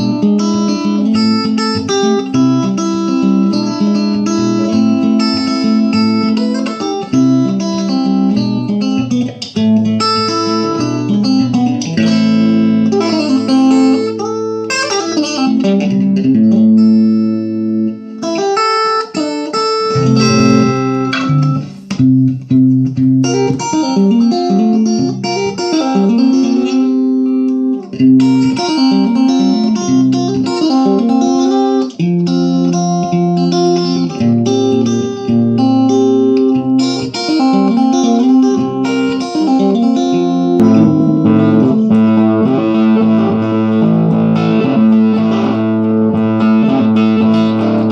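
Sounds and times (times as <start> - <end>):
electric guitar playing: 0.0 - 47.9.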